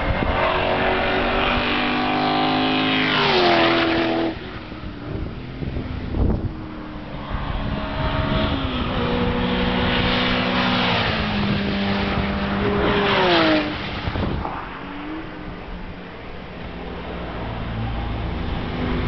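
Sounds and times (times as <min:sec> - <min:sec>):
racing car engine passing by: 0:00.0 - 0:19.0.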